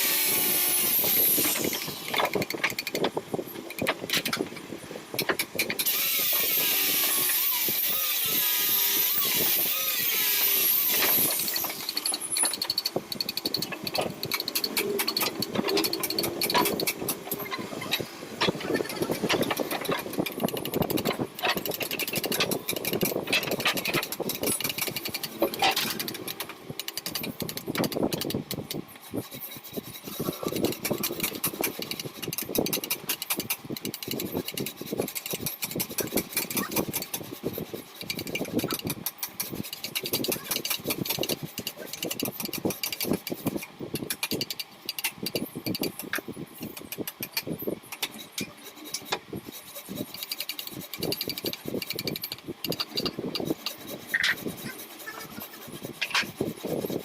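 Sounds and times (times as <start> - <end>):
carving tools scraping wood: 0.0 - 57.0.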